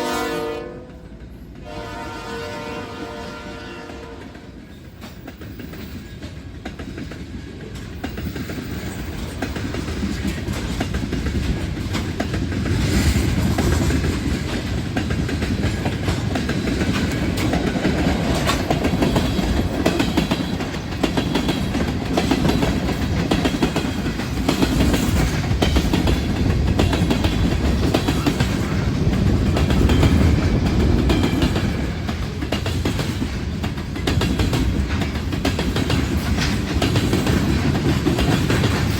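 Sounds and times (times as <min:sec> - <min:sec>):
train wheels clacking over rails: 0:00.3 - 0:38.9.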